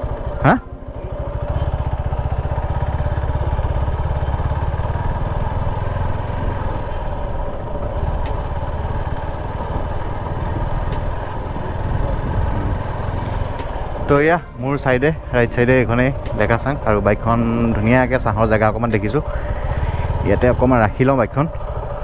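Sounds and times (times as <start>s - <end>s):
motorcycle engine droning: 0.0s - 22.0s.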